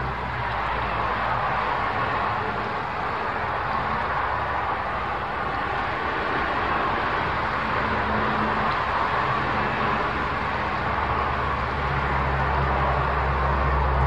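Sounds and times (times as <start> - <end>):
steady outdoor hiss: 0.0 - 14.0
vehicle engine hum: 0.0 - 14.0.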